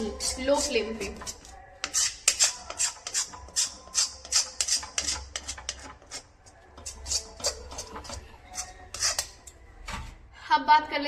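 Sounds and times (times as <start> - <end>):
utensil scraping a pan: 0.0 - 10.2.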